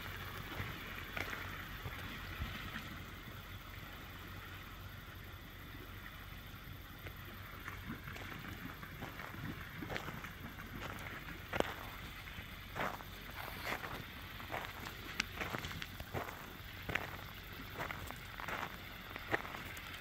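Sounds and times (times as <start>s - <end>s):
low steady hum: 0.0s - 20.0s
pelicans splashing while feeding: 0.0s - 20.0s
water splashing and lapping: 0.0s - 20.0s.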